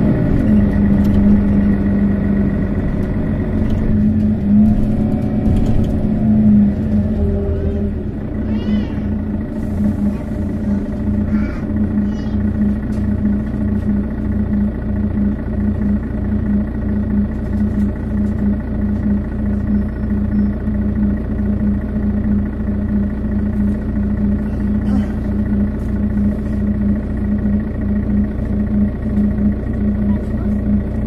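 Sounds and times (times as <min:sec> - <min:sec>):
bus diesel engine idling: 0:00.0 - 0:31.0.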